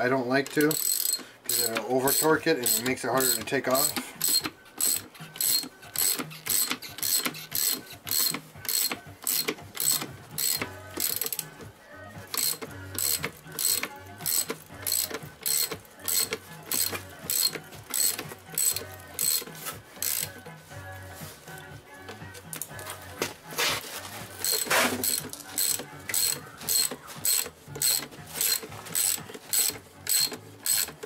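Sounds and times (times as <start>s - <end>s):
hand ratchet clicking: 0.0s - 20.6s, 23.6s - 31.0s.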